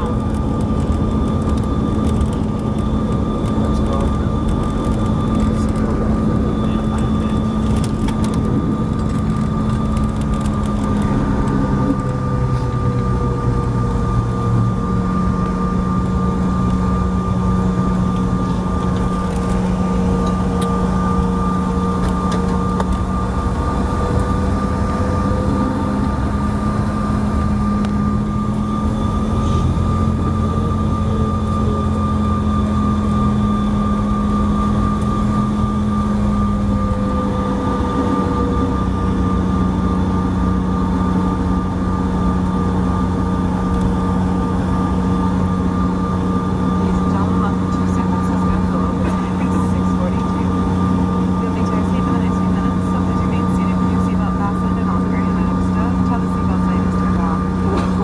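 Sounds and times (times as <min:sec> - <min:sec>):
jet engines heard from cabin: 0:00.0 - 0:58.0.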